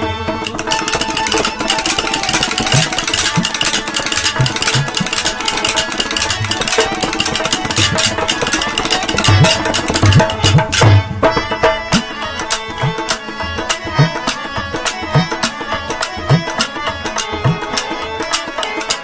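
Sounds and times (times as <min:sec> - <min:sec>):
crowd din: 0:00.0 - 0:19.0
held musical tone: 0:00.0 - 0:19.0.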